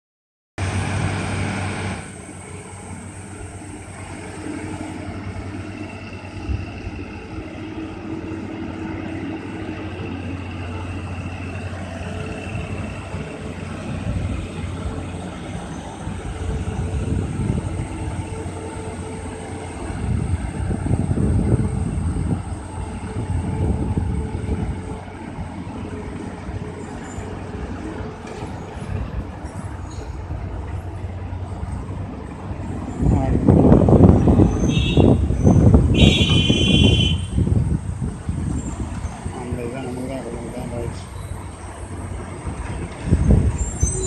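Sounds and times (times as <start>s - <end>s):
heavy road traffic drone: 0.6s - 44.0s.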